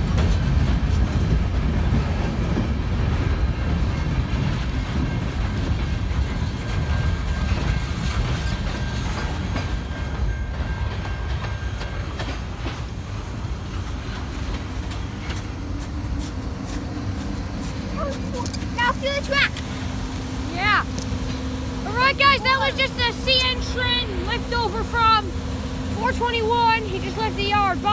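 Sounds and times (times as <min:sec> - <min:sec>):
freight train wheels clattering: 0:00.0 - 0:27.9.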